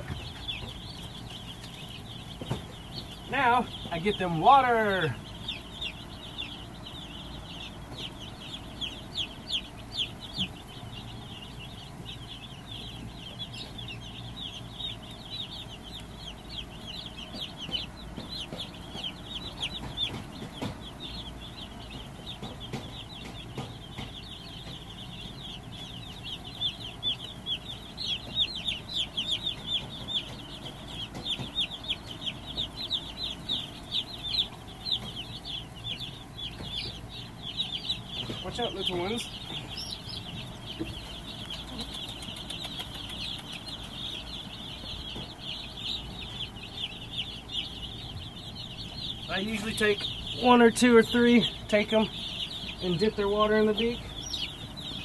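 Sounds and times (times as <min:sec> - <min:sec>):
chicks peeping: 0:00.0 - 0:55.0
electric fans whirring: 0:00.0 - 0:55.0.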